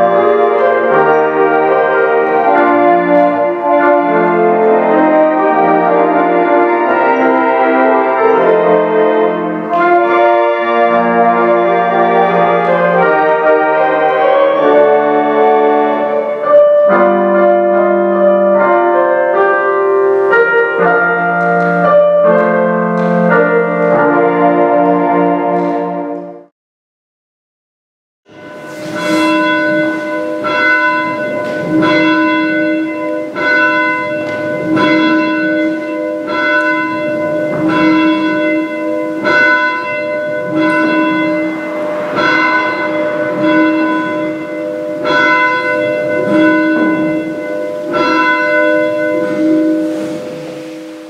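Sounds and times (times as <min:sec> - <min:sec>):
church bell tolling: 0:00.0 - 0:26.5, 0:28.3 - 0:51.0.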